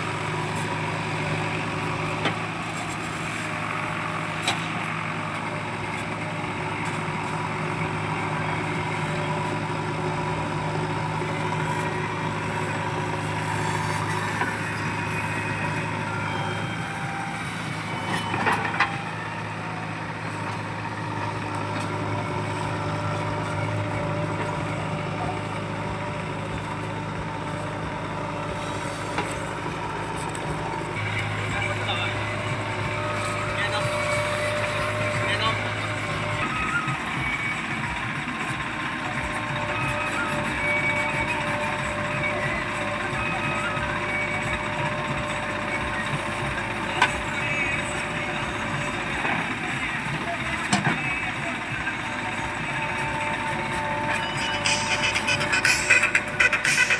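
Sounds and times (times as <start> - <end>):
diesel machinery engine running: 0.0 - 56.9.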